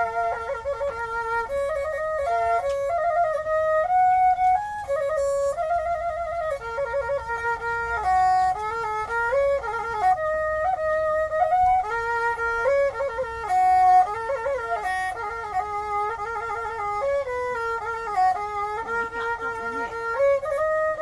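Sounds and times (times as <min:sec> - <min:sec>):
bowed fiddle solo melody: 0:00.0 - 0:21.0.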